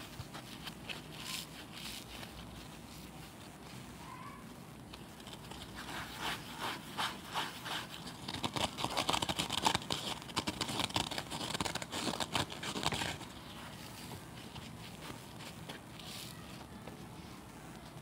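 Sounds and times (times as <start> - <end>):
scouring pad rasping: 0.0 - 3.9, 5.4 - 18.0.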